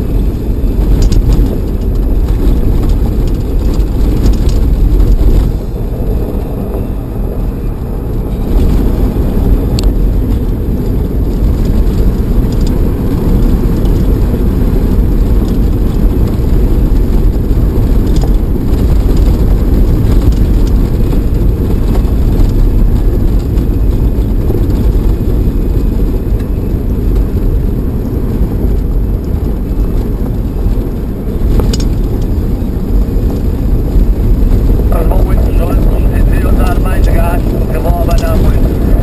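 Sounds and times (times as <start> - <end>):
vehicle rumbling on gravel: 0.0 - 39.0.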